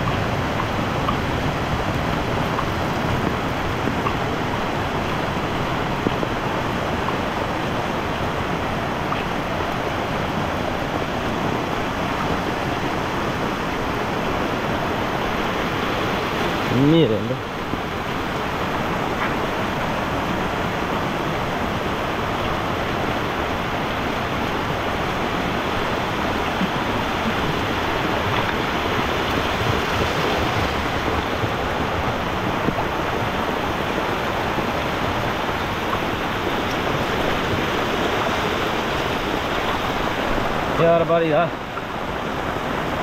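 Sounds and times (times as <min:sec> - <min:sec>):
floodwater rushing: 0:00.0 - 0:43.0.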